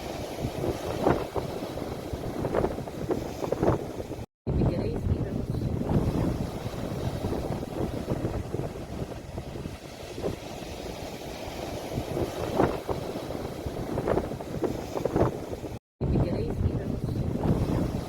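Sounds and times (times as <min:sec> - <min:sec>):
sea waves washing on shore: 0:00.0 - 0:18.0
wind buffeting microphone: 0:00.0 - 0:18.0.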